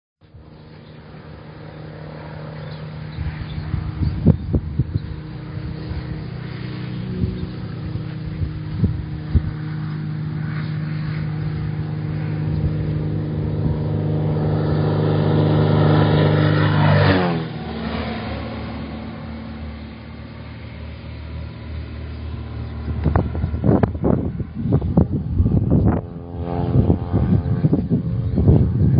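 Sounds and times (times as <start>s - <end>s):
light aircraft piston engine: 0.2s - 28.9s.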